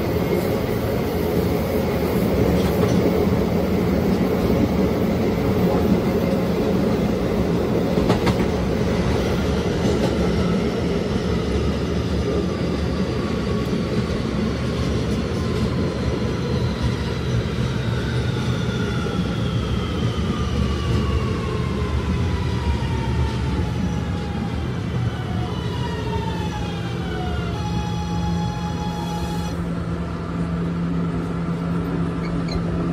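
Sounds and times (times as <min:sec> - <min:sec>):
train inverter whining: 0:00.0 - 0:32.9
wheels rumbling on rail: 0:00.0 - 0:32.9.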